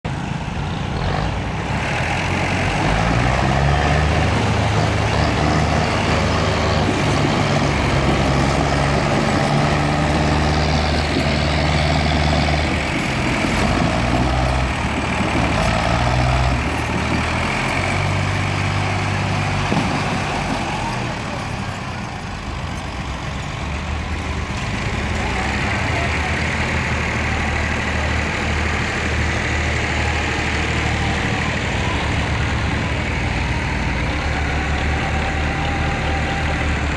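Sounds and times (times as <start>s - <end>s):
tractor diesel engine revving: 0.1s - 36.9s.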